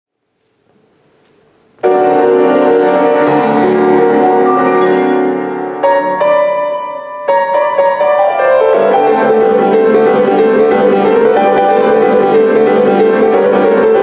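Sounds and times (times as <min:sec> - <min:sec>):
boogie-woogie piano: 0:01.8 - 0:14.0.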